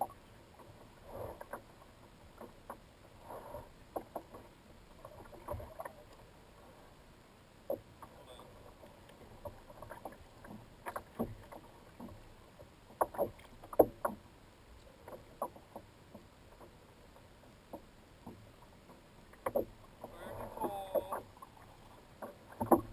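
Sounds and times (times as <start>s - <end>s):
water: 0.0s - 22.9s
wind: 0.0s - 22.9s.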